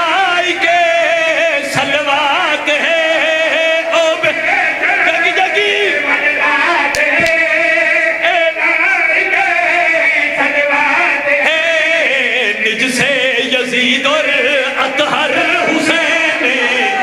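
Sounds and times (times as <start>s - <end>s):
men singing together: 0.0s - 17.0s.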